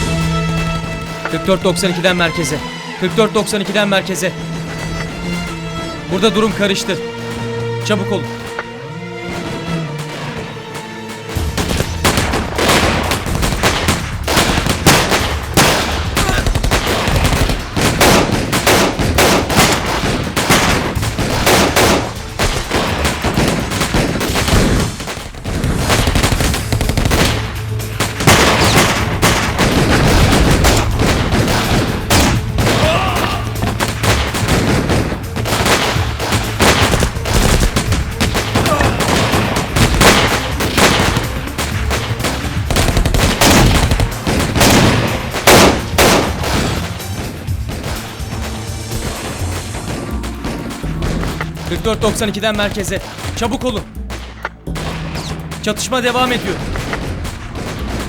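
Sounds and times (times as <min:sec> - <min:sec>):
rapid gunshots: 0:00.0 - 0:58.0
automatic gunfire bursts: 0:09.3 - 0:58.0.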